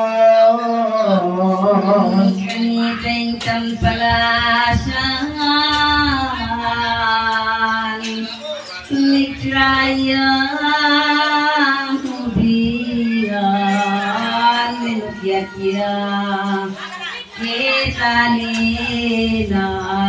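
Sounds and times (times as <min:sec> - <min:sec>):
high voice singing slowly: 0:00.0 - 0:20.0.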